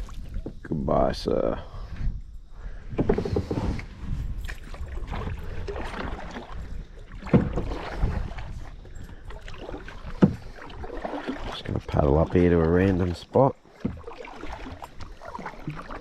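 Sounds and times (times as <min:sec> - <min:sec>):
paddle splashing in water: 0:00.0 - 0:00.6, 0:02.9 - 0:16.0
wind rumble on microphone: 0:00.0 - 0:14.0
paddle knocking against hull: 0:02.9 - 0:16.0.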